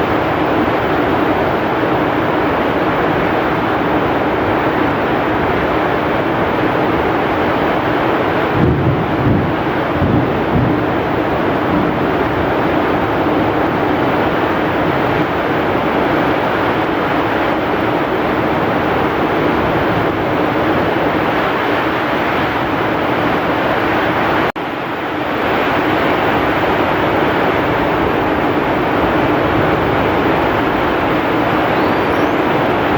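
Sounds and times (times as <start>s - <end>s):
heavy rain pouring: 0.0s - 32.9s
strong wind: 0.0s - 32.9s.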